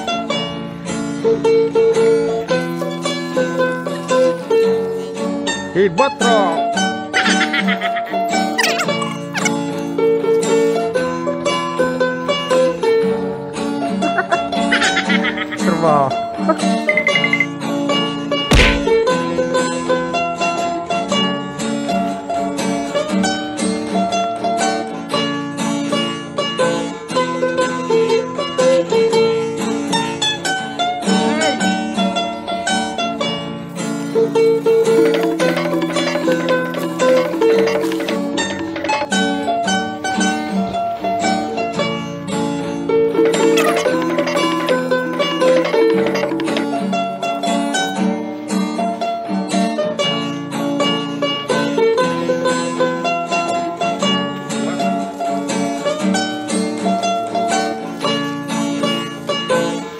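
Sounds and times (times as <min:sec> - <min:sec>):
plucked string instrumental music: 0:00.0 - 0:59.9.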